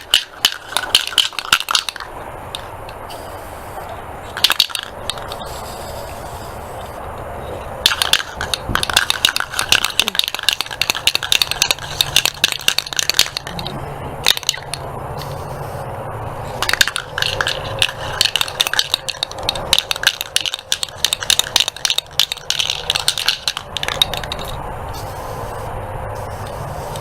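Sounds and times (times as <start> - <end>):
spray can ball rattling: 0.0 - 7.2, 7.8 - 15.8, 16.4 - 27.0.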